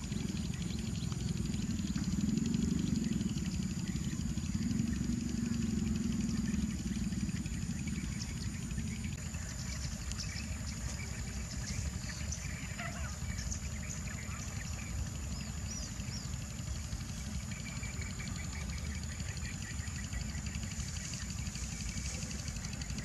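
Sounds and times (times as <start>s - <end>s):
bird chirps: 0.0s - 23.0s
insects whining: 0.0s - 23.0s
low rumble: 0.0s - 23.0s.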